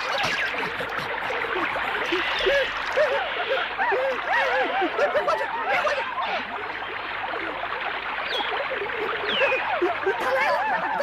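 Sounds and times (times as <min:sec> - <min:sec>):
monkeys chattering and squealing: 0:00.0 - 0:06.8, 0:08.3 - 0:11.0.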